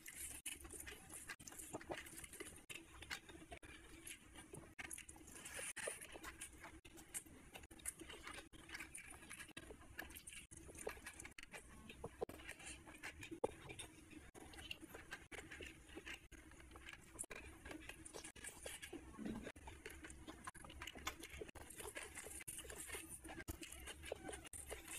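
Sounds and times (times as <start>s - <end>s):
chewing and wet mouth sounds: 0.0s - 24.9s.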